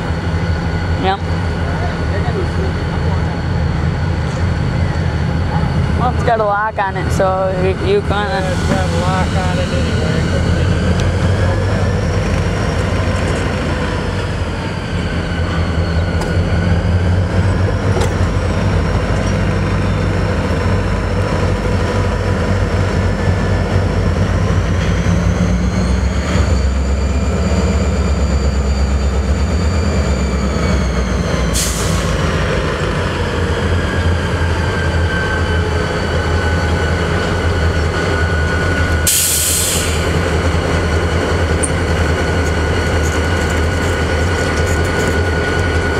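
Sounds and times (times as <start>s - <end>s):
train wheels squealing: 0.0s - 6.4s, 7.0s - 45.9s
locomotive engine rumble: 0.0s - 45.9s.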